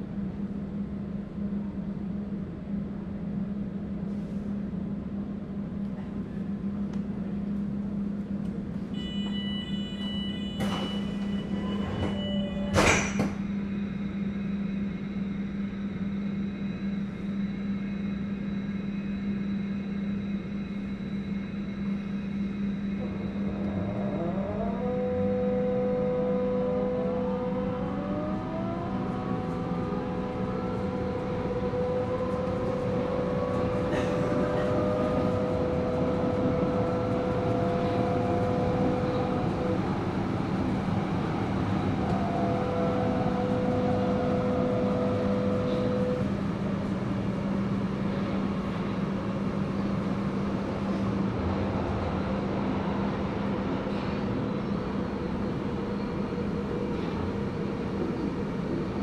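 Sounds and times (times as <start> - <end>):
train drive rising whine: 0.0 - 59.0
train low hum: 0.0 - 59.0.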